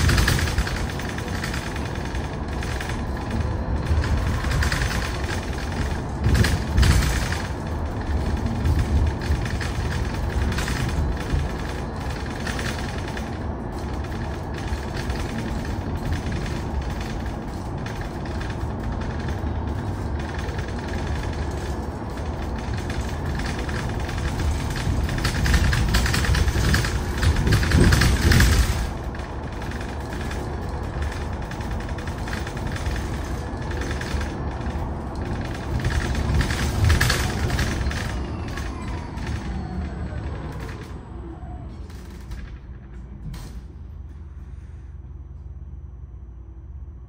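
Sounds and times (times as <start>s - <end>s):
bus road rumble: 0.0s - 47.0s.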